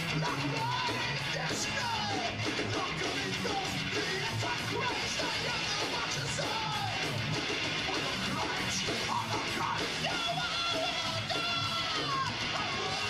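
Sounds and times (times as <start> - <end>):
heavy metal band playing: 0.0 - 13.0
man singing and yelling: 0.0 - 13.0.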